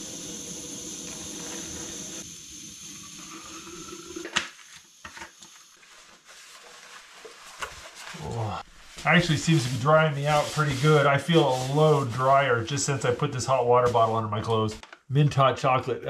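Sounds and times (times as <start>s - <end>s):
water heating hiss: 0.0s - 14.7s.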